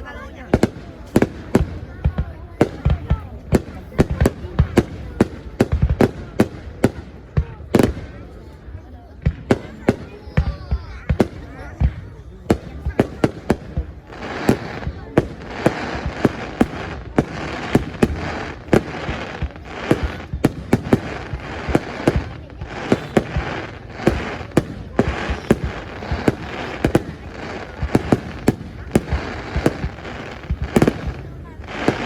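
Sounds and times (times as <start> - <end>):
fireworks crackling: 0.0 - 32.0
firework bangs: 0.2 - 32.0.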